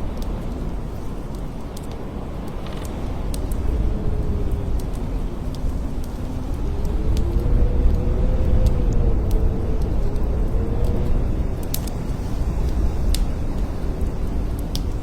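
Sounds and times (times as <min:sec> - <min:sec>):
blizzard wind howling: 0:00.0 - 0:15.0.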